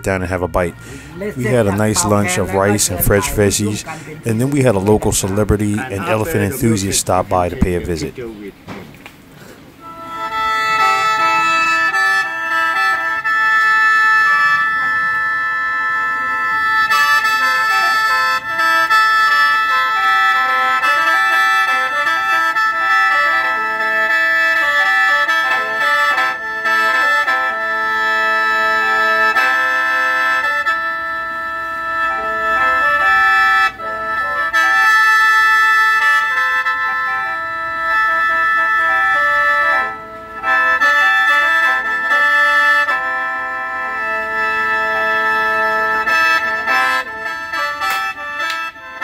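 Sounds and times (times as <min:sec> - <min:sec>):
reedy mouth organ melody with drone: 0:00.0 - 0:08.4, 0:09.8 - 0:49.0.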